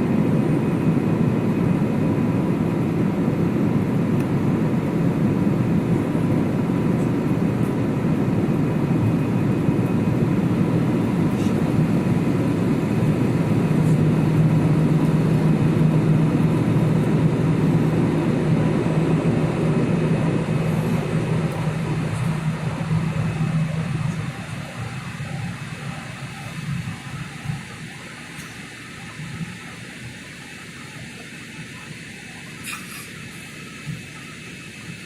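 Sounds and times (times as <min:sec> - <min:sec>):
jet engines during takeoff: 0:00.0 - 0:35.0.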